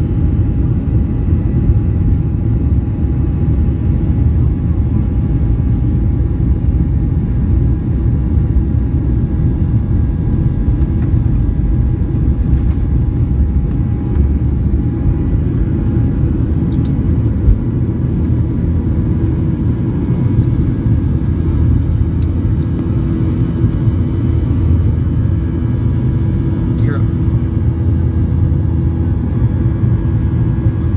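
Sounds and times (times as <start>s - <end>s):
jet engines deep rumble: 0.0s - 30.9s.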